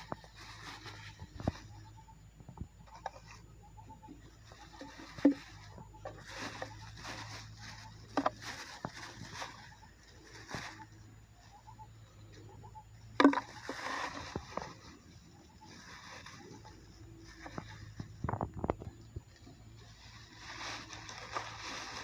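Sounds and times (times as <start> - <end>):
garbage bag rustling: 0.0 - 2.0, 4.4 - 12.4, 13.1 - 22.0.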